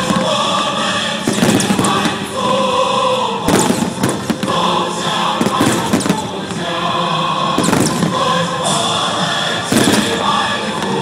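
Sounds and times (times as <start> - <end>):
firework bangs and crackles: 0.0 - 11.0
music with singing voices: 0.0 - 11.0.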